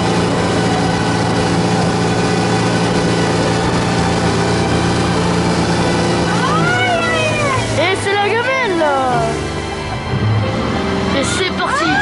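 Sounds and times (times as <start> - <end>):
outboard motor running: 0.0 - 12.0
wind and rushing water: 0.0 - 12.0.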